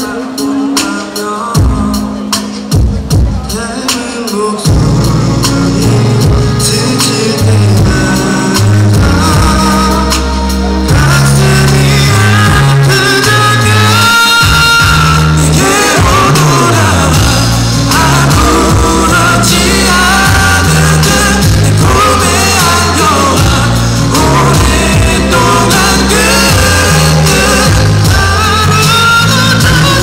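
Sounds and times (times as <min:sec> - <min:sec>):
person singing: 0:00.0 - 0:30.0
pop-rock band playing: 0:00.0 - 0:30.0.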